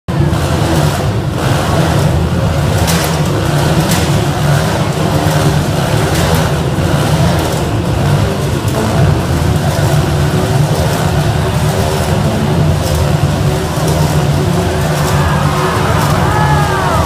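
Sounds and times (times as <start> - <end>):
motorcycle engines droning: 0.1 - 17.0.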